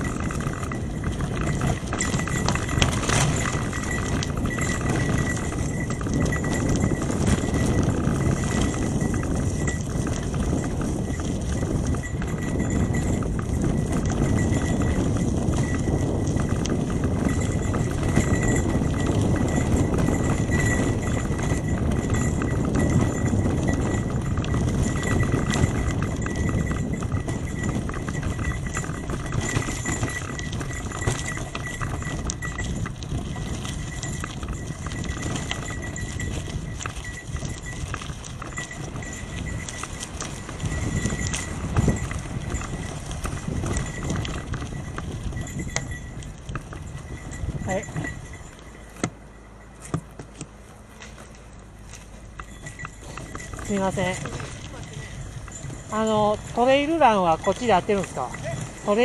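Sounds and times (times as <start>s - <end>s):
wind on microphone: 0.0s - 49.2s, 52.1s - 59.0s
bicycle tyres on gravel: 0.0s - 59.0s
bike rattling over stones: 0.0s - 59.0s.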